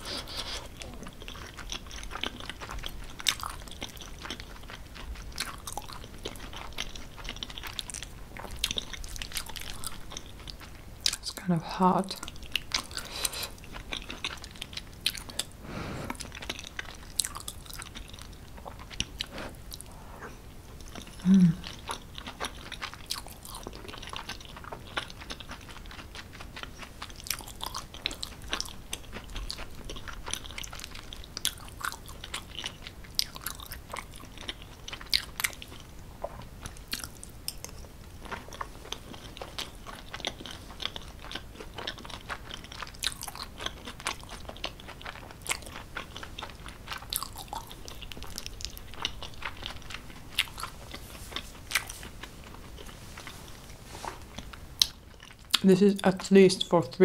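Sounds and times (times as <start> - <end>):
chewing with wet mouth clicks: 0.4 - 11.4, 12.1 - 53.0, 54.3 - 56.7.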